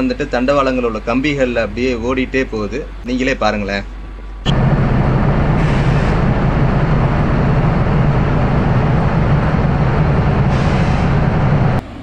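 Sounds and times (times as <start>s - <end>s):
machinery low hum: 0.0s - 12.0s.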